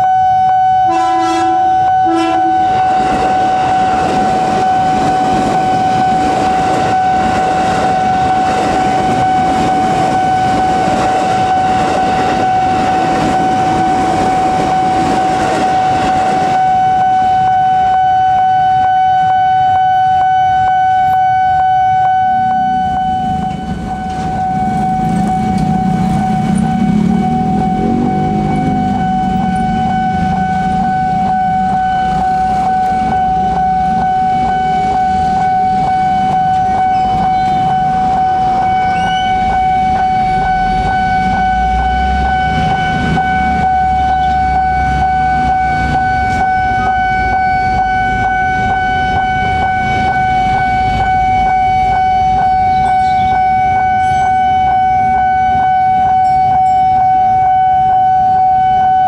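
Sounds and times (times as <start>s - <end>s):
level crossing alarm ringing: 0.0s - 59.0s.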